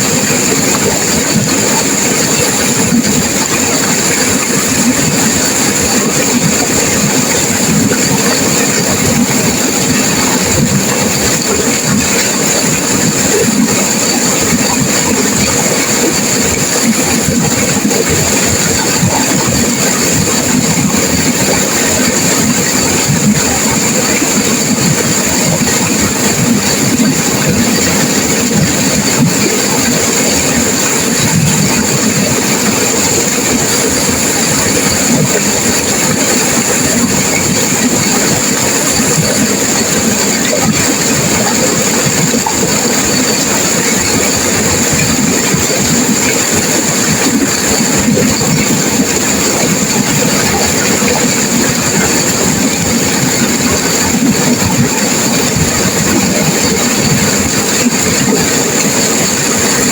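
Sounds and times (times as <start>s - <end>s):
river water rushing over rapids: 0.0s - 59.9s.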